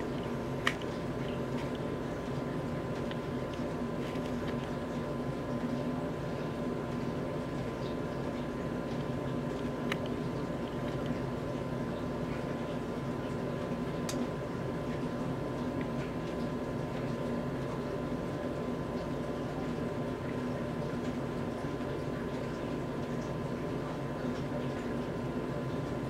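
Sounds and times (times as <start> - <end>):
background hum and hiss: 0.0 - 26.0.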